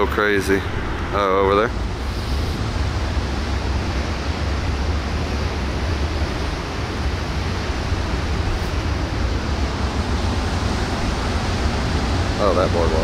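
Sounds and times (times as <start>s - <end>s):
strong wind on microphone: 0.7s - 13.0s.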